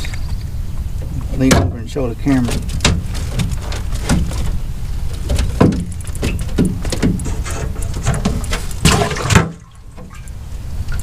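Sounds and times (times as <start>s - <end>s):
steady low rumble: 0.0s - 11.0s
irregular knocks and thumps: 1.0s - 10.2s.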